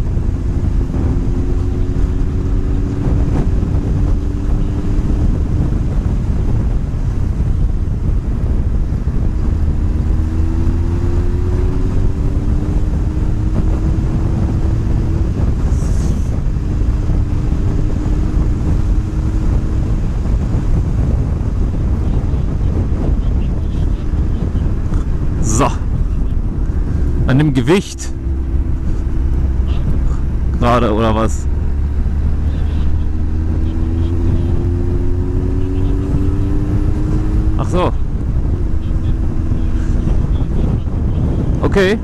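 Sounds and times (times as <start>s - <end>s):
motorcycle engine rising: 0.0s - 42.0s
road rumble: 0.0s - 42.0s
wind rush on microphone: 0.0s - 42.0s.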